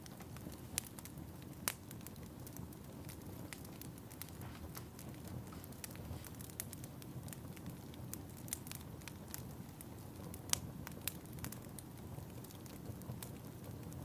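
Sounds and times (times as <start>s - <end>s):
low rumble of fire: 0.0s - 14.0s
wood fire crackling and popping: 0.0s - 14.0s.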